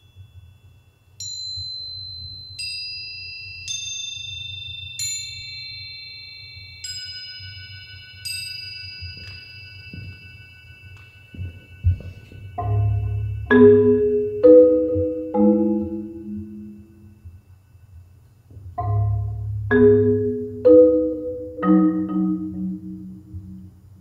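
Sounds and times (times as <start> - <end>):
high metal percussion notes ringing: 0.0 - 23.7.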